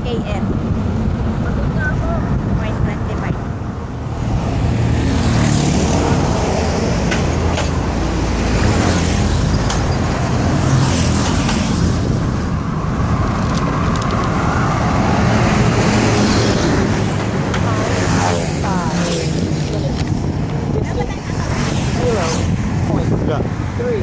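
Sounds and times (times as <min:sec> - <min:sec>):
highway traffic noise: 0:00.0 - 0:24.0.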